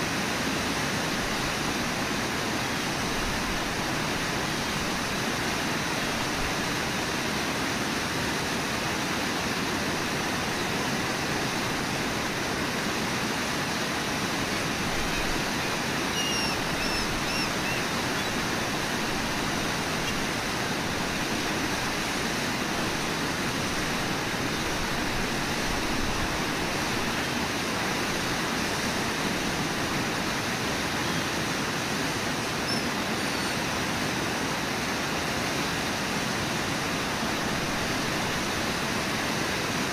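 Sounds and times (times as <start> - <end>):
whitewater rushing in rapids: 0.0 - 39.9.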